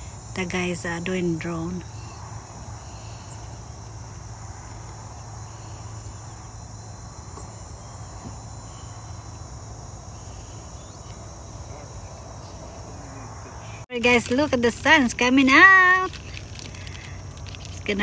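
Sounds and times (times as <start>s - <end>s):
insects chirring: 0.0s - 18.0s
low steady hum: 0.0s - 18.0s.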